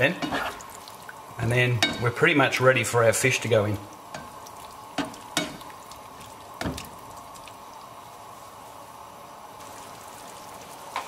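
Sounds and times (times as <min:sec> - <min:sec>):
curry simmering with steady hiss: 0:00.0 - 0:11.0.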